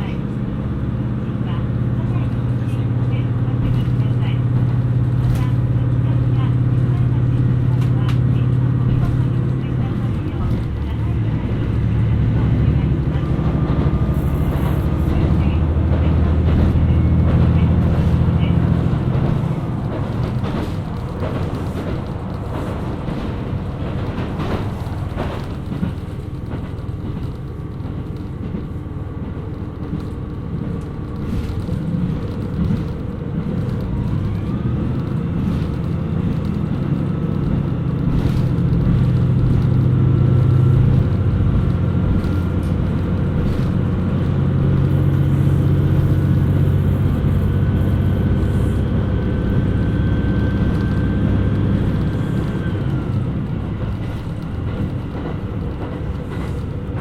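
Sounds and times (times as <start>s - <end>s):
diesel engine hum: 0.0s - 57.0s.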